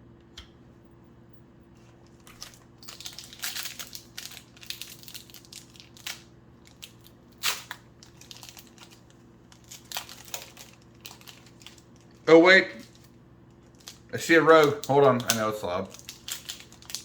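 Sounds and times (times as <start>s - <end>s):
wrapper crinkling and tearing: 2.1s - 17.0s.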